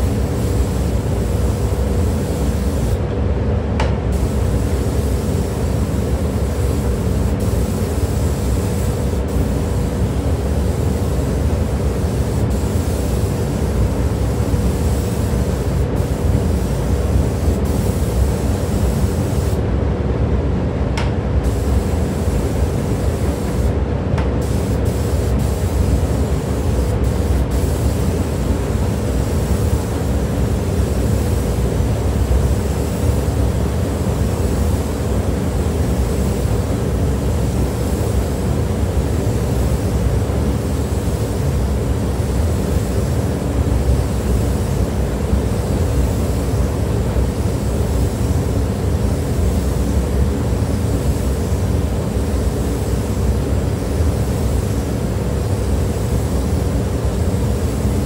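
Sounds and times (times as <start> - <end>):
spray gun hissing: 0.0 - 3.0, 4.1 - 19.6, 21.4 - 58.0
ventilation rush and hum: 0.0 - 58.0.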